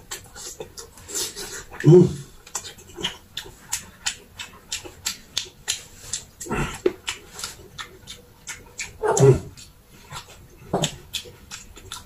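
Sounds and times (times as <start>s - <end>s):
open-mouthed wet chewing smacks: 0.0s - 12.0s.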